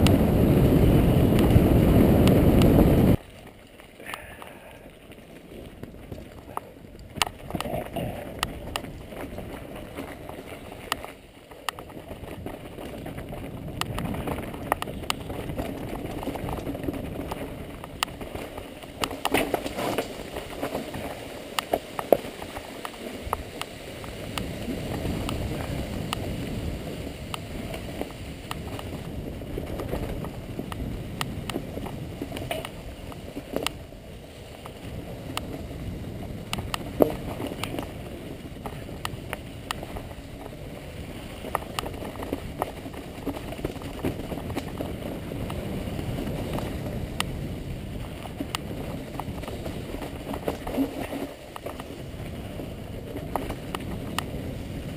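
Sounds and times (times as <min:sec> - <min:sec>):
bike tyres rumbling and rattling: 0:00.0 - 0:54.9
wheels knocking on rocks: 0:00.0 - 0:54.9.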